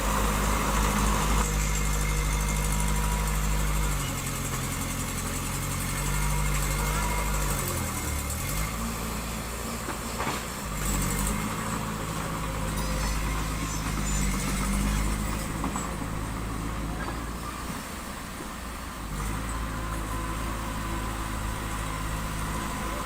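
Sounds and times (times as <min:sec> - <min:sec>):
diesel engine of heavy machinery: 0:00.0 - 0:23.0.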